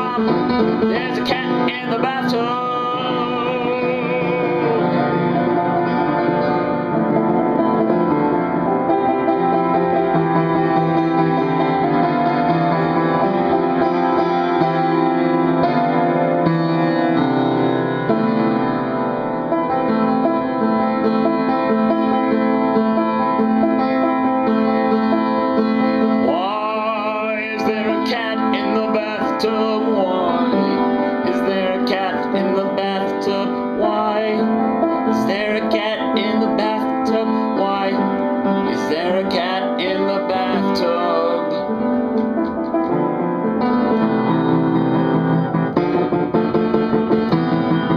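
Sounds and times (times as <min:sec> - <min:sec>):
upbeat piano tune: 0:00.0 - 0:47.9.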